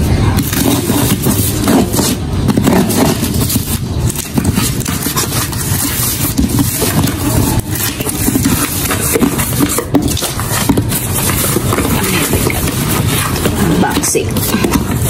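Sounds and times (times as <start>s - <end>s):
cardboard box scraping and knocking: 0.3s - 15.0s
knife slitting packing tape: 0.3s - 15.0s.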